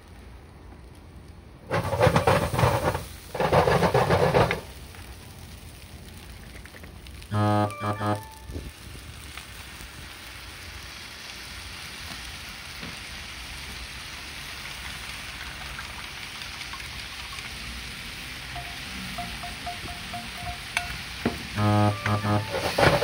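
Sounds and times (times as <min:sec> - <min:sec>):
noodles sizzling in frying pan: 0:01.7 - 0:23.0.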